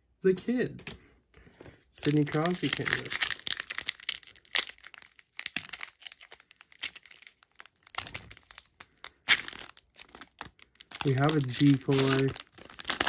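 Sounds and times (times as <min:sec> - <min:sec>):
foil wrapper crinkling: 0:02.0 - 0:13.0.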